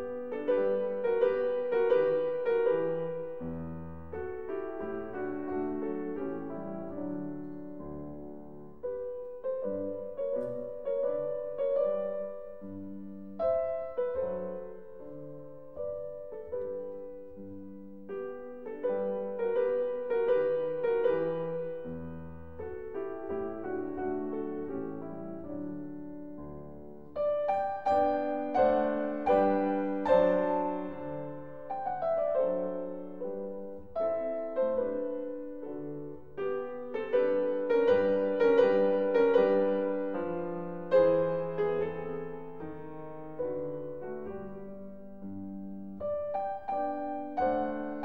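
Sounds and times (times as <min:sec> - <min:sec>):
solo piano music: 0:00.0 - 0:48.0.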